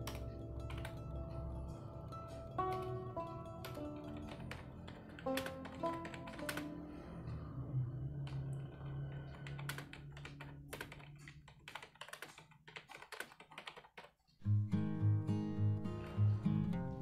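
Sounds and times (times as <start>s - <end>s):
background music: 0.0s - 11.6s, 14.4s - 17.0s.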